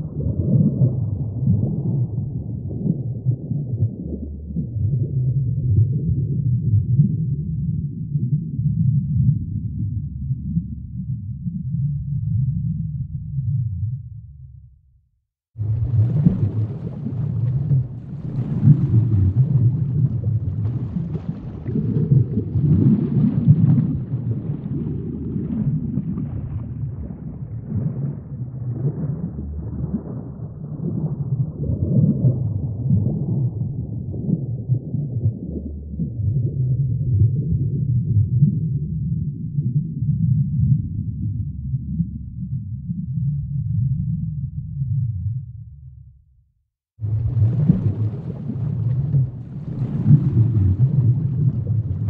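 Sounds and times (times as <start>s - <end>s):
low wavering rumble: 0.0s - 14.8s, 15.6s - 46.3s, 47.0s - 52.0s.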